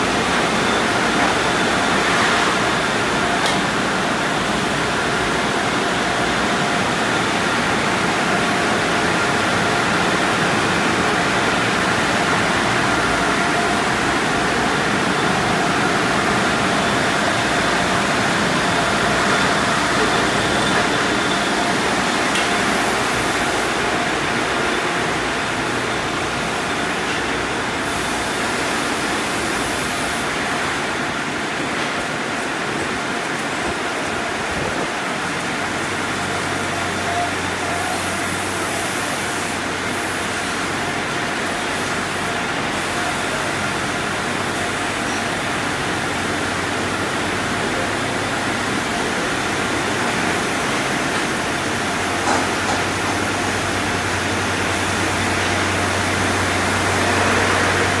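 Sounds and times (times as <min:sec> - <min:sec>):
water spraying: 0:00.0 - 0:58.0.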